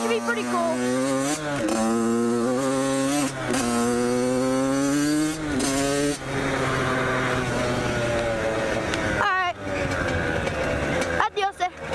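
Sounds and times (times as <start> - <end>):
dirt bike engine under throttle: 0.0 - 11.9.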